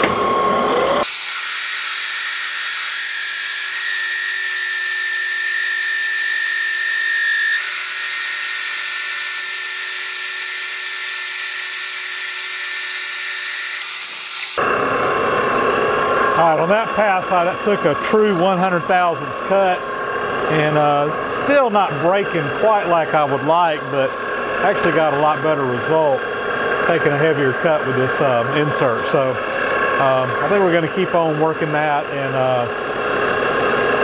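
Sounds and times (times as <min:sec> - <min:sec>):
metal lathe cutting hiss and whine: 0:00.0 - 0:14.8, 0:15.7 - 0:34.0.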